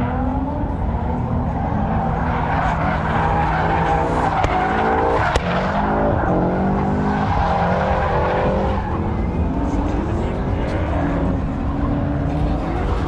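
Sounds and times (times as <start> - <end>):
car engines revving: 0.0 - 13.0
tyres skidding and squealing: 0.0 - 13.0.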